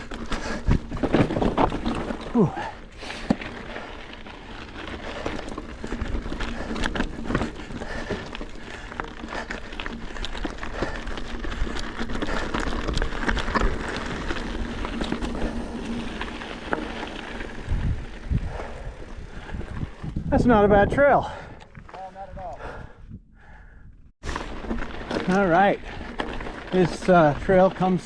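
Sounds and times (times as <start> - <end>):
bike rattling and clicking: 0.0 - 20.6, 24.2 - 28.0
tyres rumbling on dirt trail: 0.0 - 23.6, 24.2 - 28.0.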